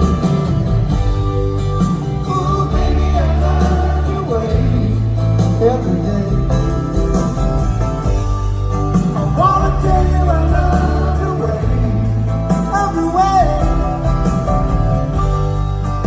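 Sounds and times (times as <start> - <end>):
soft rock band playing: 0.0 - 16.0.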